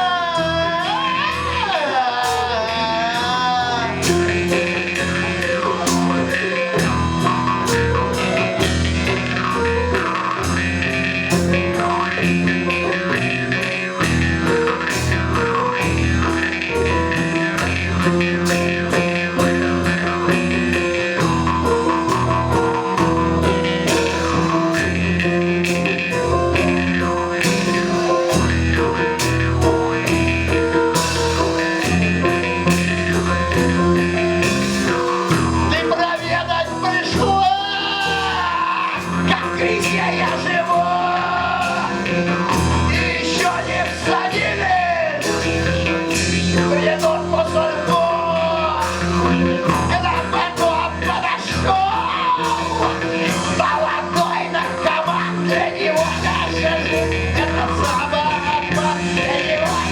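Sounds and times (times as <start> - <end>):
drums keeping a beat: 0.0 - 59.9
live blues-rock band: 0.0 - 59.9.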